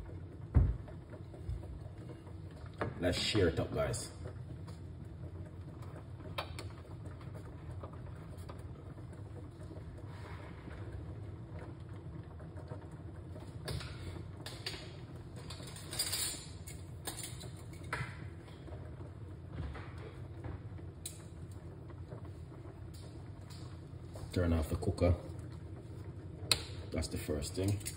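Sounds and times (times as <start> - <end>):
cooking pot rumbling on stove: 0.0 - 27.9.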